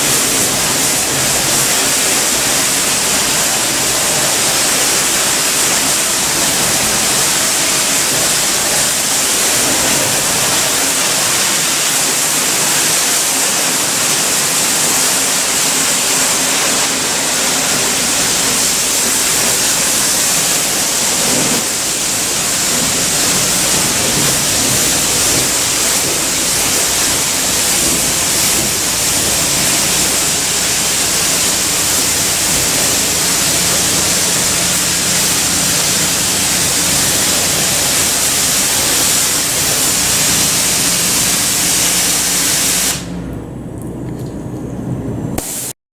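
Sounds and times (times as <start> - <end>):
water spray jet hissing: 0.0 - 43.2, 45.4 - 45.8.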